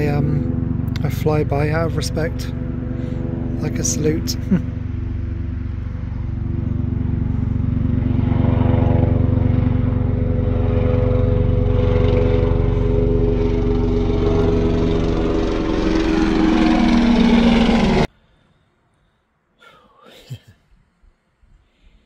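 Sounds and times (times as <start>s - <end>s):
helicopter rotor chop: 0.0s - 18.1s.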